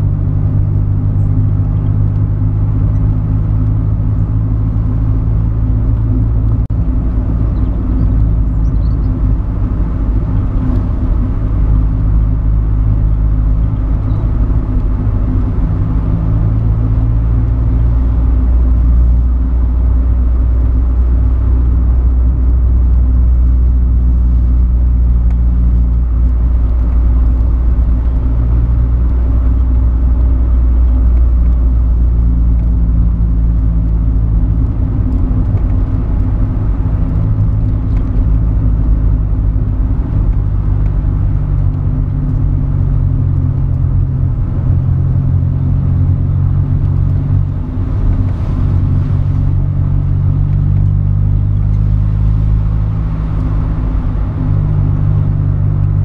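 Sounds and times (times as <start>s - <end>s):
car engine droning: 0.0s - 56.0s.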